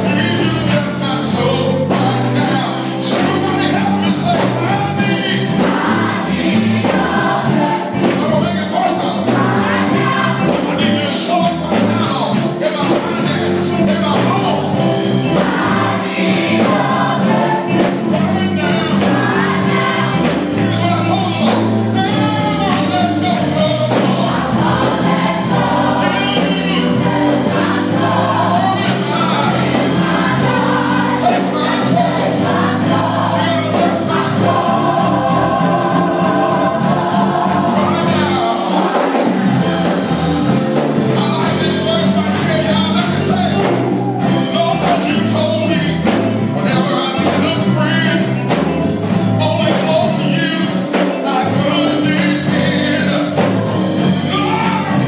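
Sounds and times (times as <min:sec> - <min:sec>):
steady bass line: 0:00.0 - 0:50.4
gospel choir singing: 0:00.0 - 0:55.0
instrumental backing: 0:00.0 - 0:55.0.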